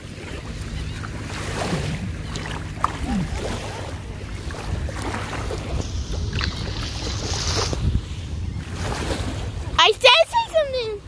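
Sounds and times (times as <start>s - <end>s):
wind on microphone: 0.0s - 9.8s
shallow surf washing: 0.0s - 11.0s.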